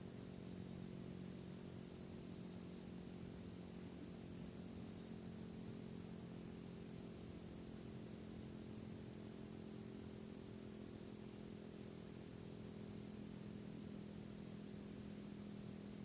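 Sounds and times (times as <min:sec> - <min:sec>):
faint insect chirping: 0:01.2 - 0:16.0.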